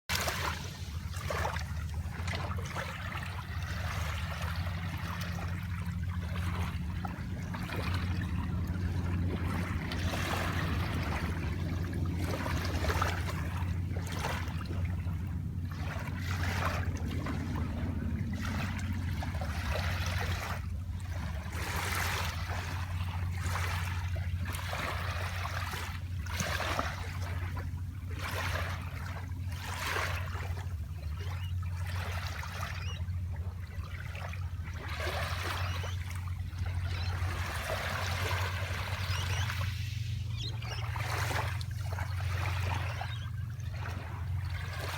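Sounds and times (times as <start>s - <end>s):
steady low rumble: 0.1s - 31.8s, 36.0s - 44.9s
small waves lapping and splashing: 0.1s - 44.9s.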